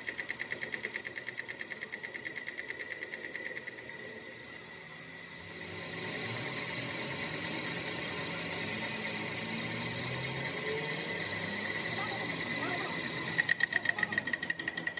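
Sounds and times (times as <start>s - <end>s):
metal lathe cutting whine: 0.0s - 14.9s.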